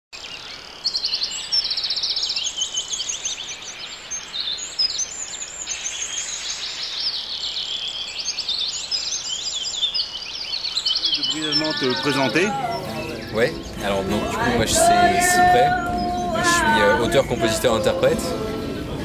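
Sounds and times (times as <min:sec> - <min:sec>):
birds chirping and trilling: 0:00.2 - 0:19.0.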